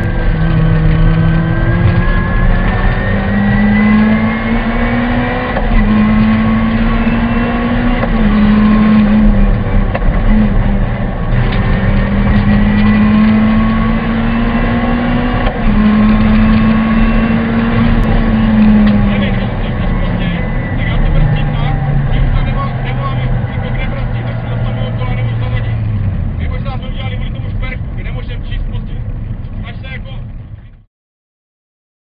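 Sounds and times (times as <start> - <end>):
car engine revving: 0.0 - 30.8
road and tyre noise: 0.0 - 30.9.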